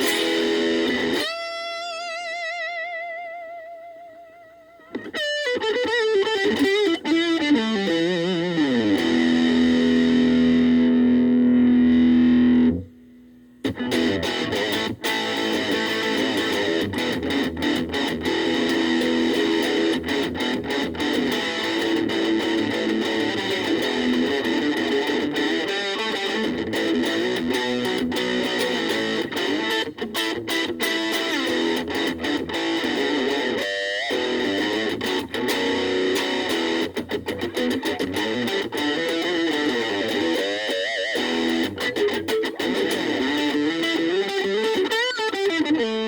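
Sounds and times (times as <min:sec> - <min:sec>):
electric guitar playing: 0:00.0 - 0:46.0.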